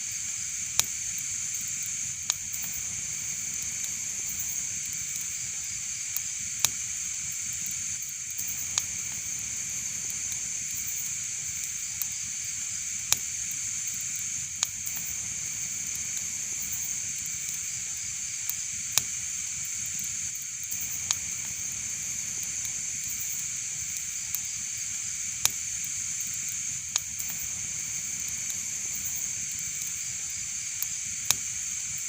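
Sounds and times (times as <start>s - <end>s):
fire hissing: 0.0s - 32.0s
fire crackles and pops: 0.1s - 32.0s.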